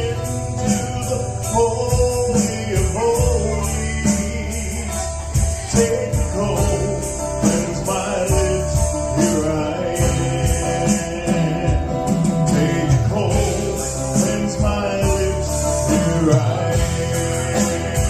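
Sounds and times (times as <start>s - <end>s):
live country gospel band playing: 0.0s - 18.0s.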